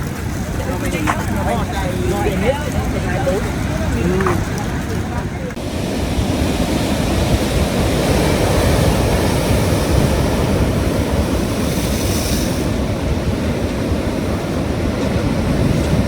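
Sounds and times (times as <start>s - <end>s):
ocean surf breaking on shore: 0.0s - 16.0s
wind buffeting microphone: 0.0s - 16.0s.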